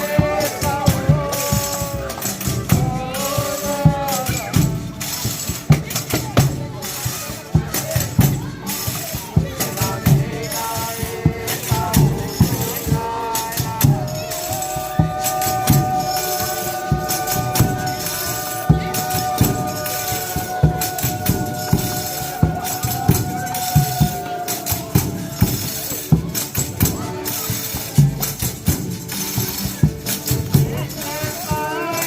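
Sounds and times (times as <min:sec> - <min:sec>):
drum beating steady rhythm: 0:00.0 - 0:32.0
tambourines shaking: 0:00.0 - 0:32.0.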